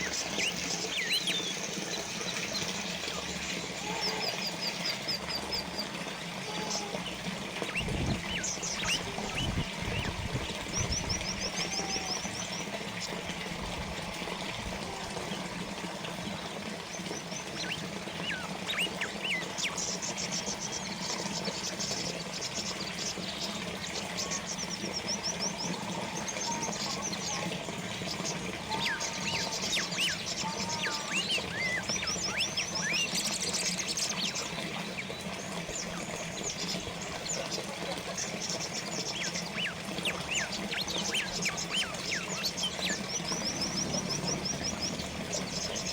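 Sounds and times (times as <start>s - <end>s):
fountain water trickling: 0.0s - 45.9s
small birds chirping: 0.0s - 45.9s.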